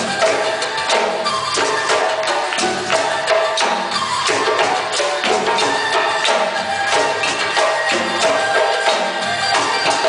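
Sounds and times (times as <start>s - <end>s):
hand drums playing: 0.0s - 10.0s.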